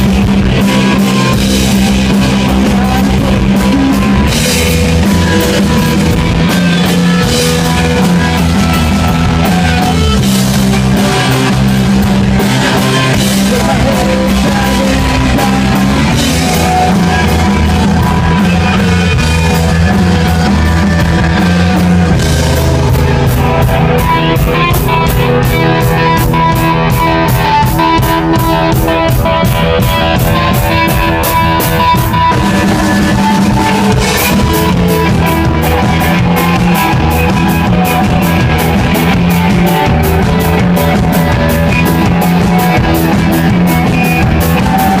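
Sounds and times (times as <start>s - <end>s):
rock band playing live: 0.0s - 45.0s.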